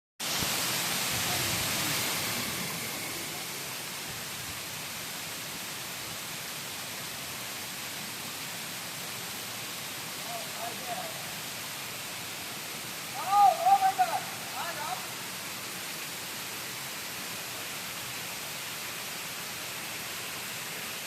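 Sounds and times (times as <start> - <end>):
waterfall rushing: 0.2 - 21.0.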